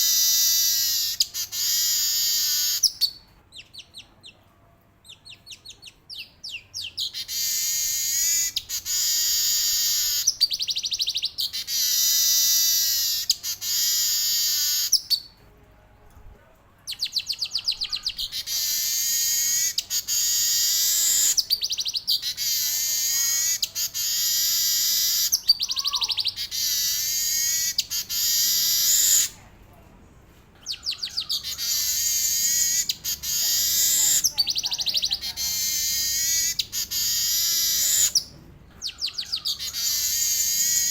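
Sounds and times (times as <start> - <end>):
weaver bird buzzy song: 0.0 - 4.1, 5.3 - 15.4, 16.9 - 29.4, 30.6 - 40.9.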